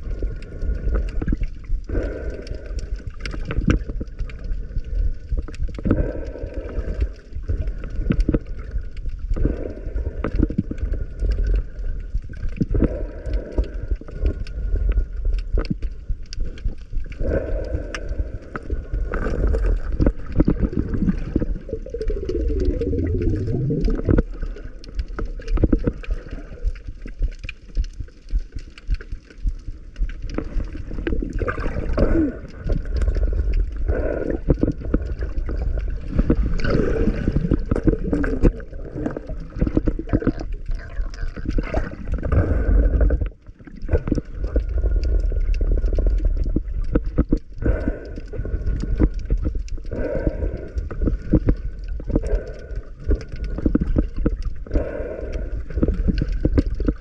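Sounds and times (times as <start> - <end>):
underwater clicks: 0.0 - 57.0
underwater rushing and gurgling: 0.0 - 57.0.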